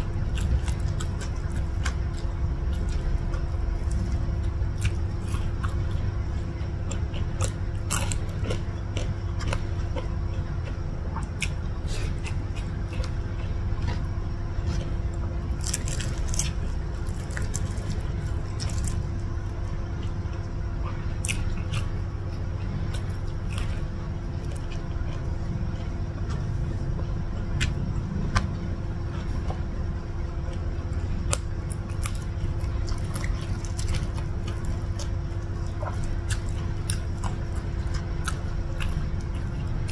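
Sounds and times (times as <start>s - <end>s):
person chewing: 0.0s - 39.9s
steady low hum: 0.0s - 39.9s.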